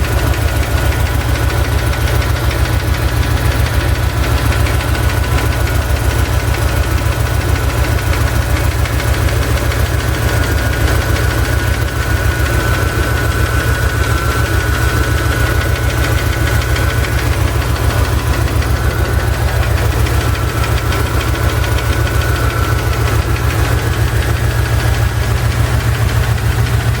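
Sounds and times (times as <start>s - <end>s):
car engine idling: 0.0s - 27.0s
rapid engine knocking: 0.0s - 27.0s.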